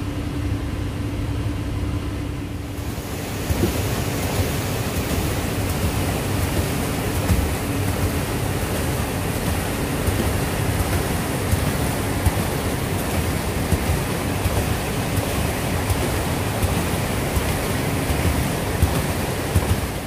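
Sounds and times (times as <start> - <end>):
water rushing through screw turbine: 2.7 - 20.0.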